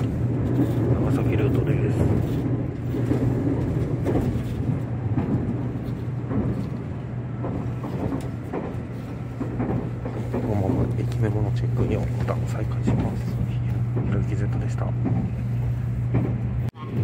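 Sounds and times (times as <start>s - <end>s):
rail noise: 0.0s - 17.0s
train interior low hum: 0.0s - 17.0s.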